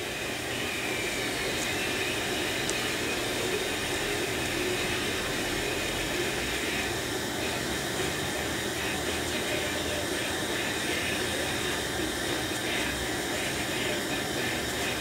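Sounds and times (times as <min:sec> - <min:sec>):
fan whooshing hum: 0:00.0 - 0:15.0.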